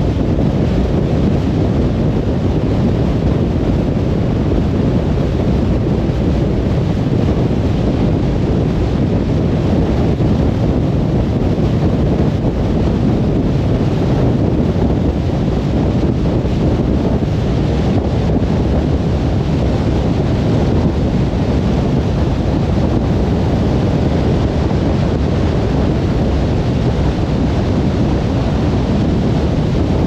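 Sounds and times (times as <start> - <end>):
car driving at speed: 0.0 - 30.0.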